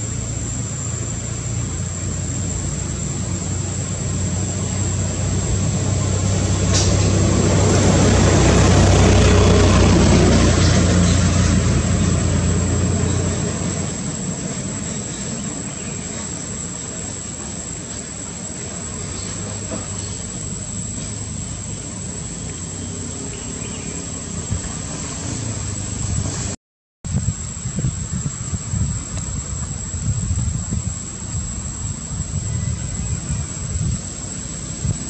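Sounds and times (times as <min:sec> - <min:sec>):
plane engine droning overhead: 0:00.0 - 0:35.0
steady high-pitched whine: 0:00.0 - 0:35.0.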